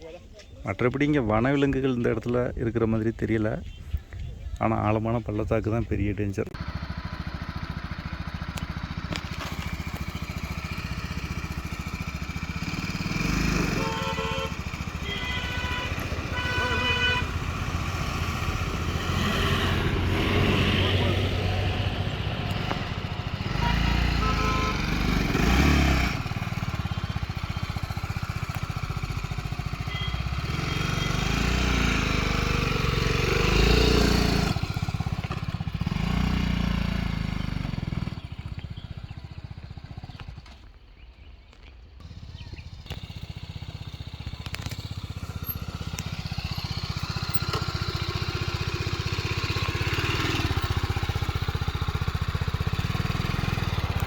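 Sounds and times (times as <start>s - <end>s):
motorcycle engine running: 6.5s - 41.0s, 42.0s - 54.0s.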